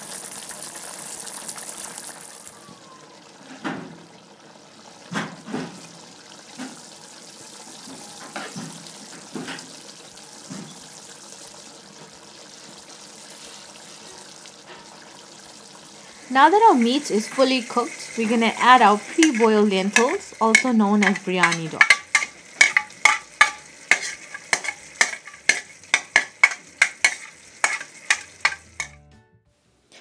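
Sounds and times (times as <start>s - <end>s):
curry sizzling in a pot: 0.0s - 29.1s.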